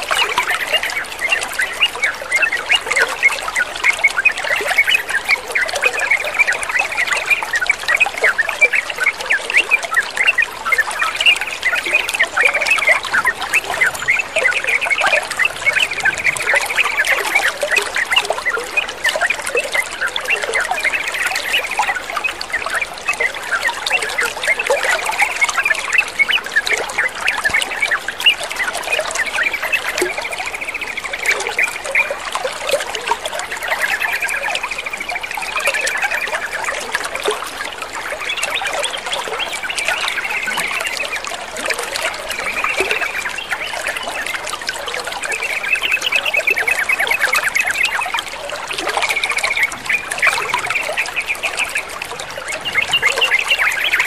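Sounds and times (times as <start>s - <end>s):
bird calls: 0.0s - 54.0s
water trickling and bubbling: 0.0s - 54.0s.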